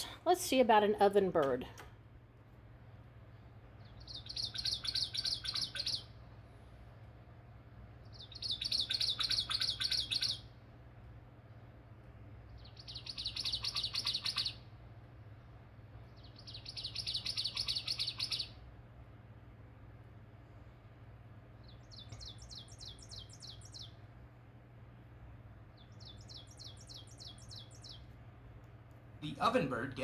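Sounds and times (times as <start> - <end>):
low steady hum: 0.0 - 30.0
recorded bird song chirping: 3.2 - 30.0.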